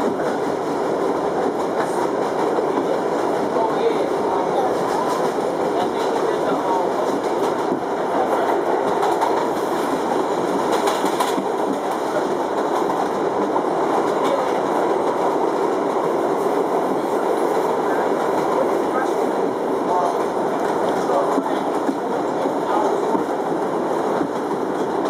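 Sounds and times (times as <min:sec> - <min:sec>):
subway car wheels on rail: 0:00.0 - 0:25.0.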